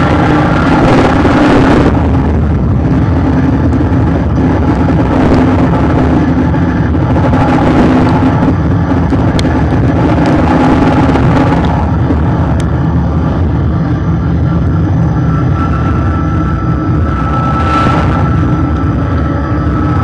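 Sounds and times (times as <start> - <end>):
car engine and exhaust drone: 0.0 - 20.0
tyre and wind rush: 0.0 - 20.0.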